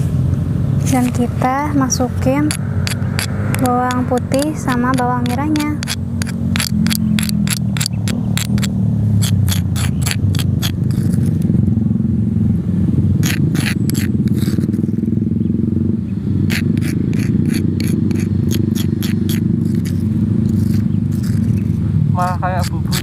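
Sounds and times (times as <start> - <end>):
loud steady low hum: 0.0 - 23.0
plastic spoon scraping stone mortar: 0.8 - 11.5, 13.2 - 15.1, 16.4 - 23.0.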